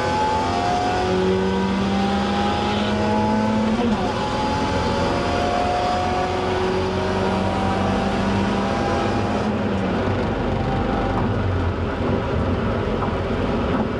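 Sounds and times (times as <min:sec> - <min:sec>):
road and wind noise: 0:00.0 - 0:13.9.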